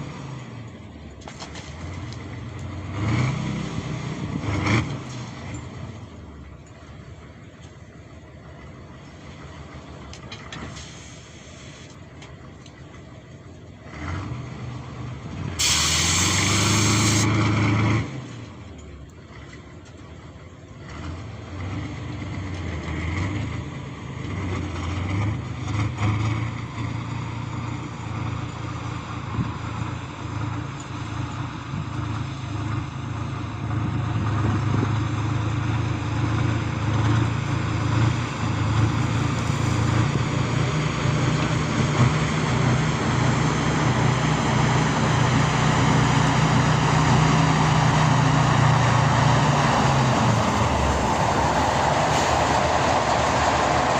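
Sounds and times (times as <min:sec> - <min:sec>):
tractor diesel engine droning: 0:00.0 - 0:53.9.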